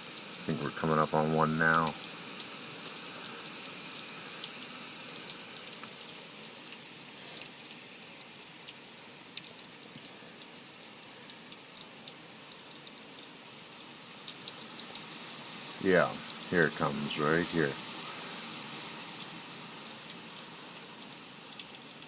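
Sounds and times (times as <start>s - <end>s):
heavy rain falling: 0.0s - 22.0s
ticks of close raindrops: 0.0s - 22.0s.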